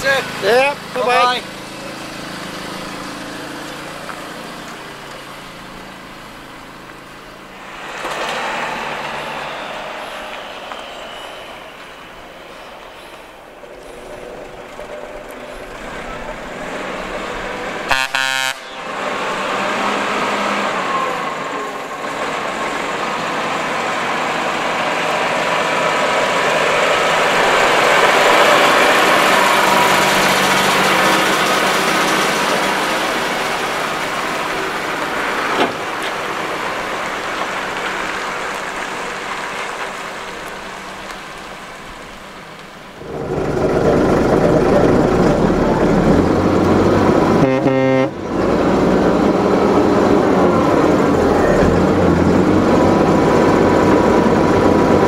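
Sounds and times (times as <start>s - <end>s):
lorry diesel engine passing: 0.0s - 55.0s.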